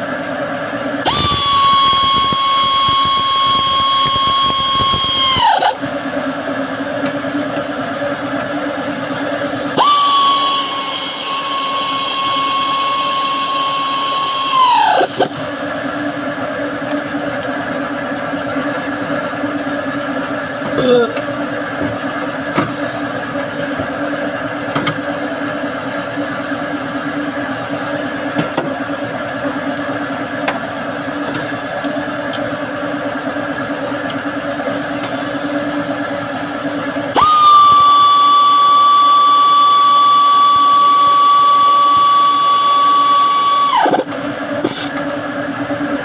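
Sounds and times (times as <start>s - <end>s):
steady mechanical hum: 0.0s - 46.0s
power tool whining: 0.9s - 6.2s, 7.0s - 28.8s, 33.6s - 45.1s.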